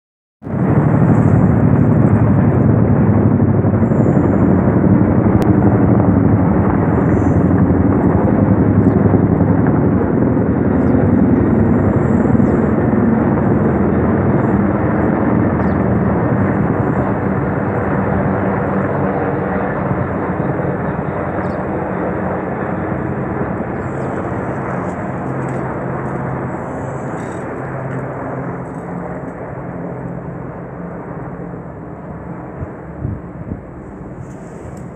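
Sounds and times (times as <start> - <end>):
helicopters flying overhead: 0.4 - 34.9.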